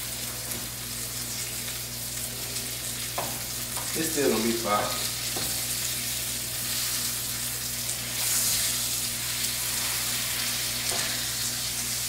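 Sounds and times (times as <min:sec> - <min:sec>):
burgers sizzling in a pan: 0:00.0 - 0:12.0.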